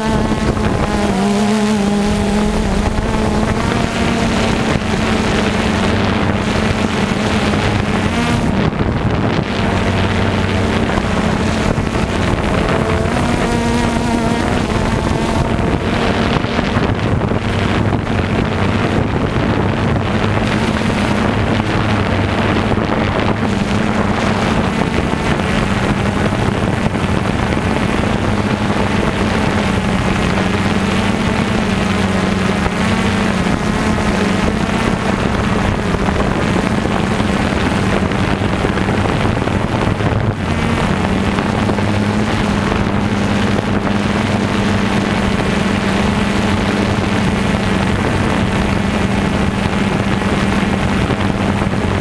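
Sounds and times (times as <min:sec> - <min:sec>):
drone motors humming: 0:00.0 - 0:52.0
wind rushing over microphone: 0:00.0 - 0:52.0.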